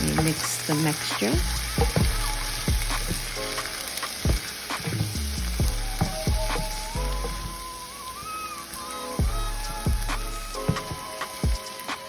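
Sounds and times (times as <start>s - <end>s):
background music: 0.0s - 12.0s
vegetables sizzling in a pan: 0.0s - 12.0s.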